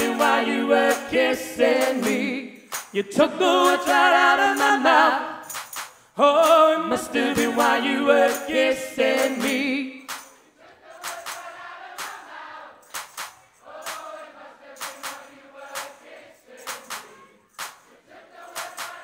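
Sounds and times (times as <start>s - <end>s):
crowd singing together: 0.0s - 19.0s.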